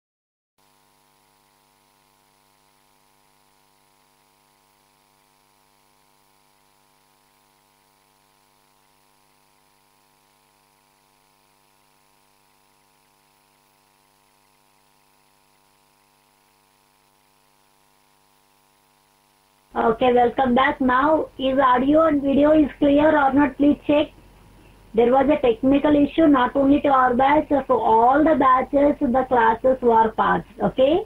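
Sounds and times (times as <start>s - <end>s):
faint electrical hum: 0.6s - 31.0s.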